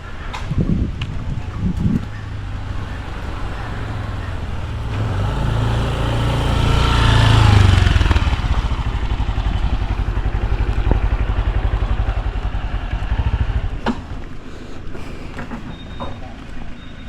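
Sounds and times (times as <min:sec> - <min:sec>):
vehicle engine pulsing: 0:00.0 - 0:17.0.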